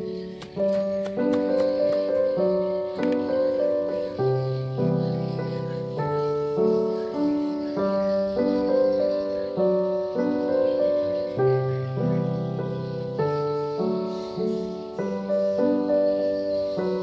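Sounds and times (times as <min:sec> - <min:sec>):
background piano music: 0:00.0 - 0:17.0.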